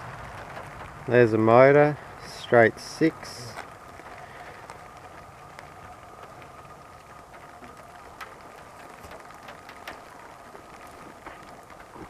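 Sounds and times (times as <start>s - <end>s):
light ticks and crackles: 0.0s - 12.0s
low hiss: 0.0s - 12.0s.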